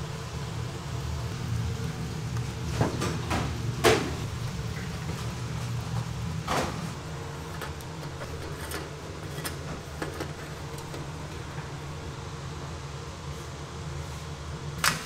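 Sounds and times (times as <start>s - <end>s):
kitchen machinery hum: 0.0s - 15.0s.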